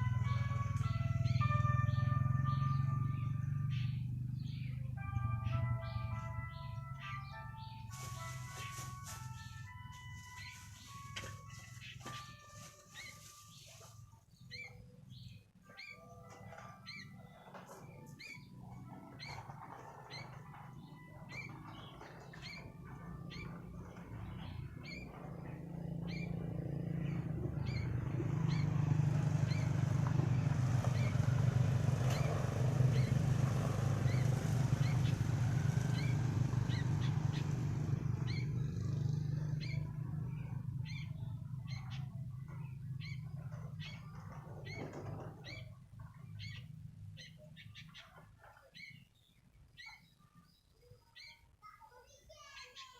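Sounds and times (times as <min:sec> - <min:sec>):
bird chirping: 0:00.3 - 0:52.9.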